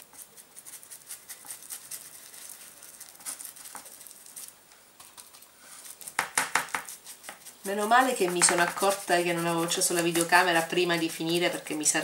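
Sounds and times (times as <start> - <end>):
scratchy tapping on metal foil: 0.0 - 12.0.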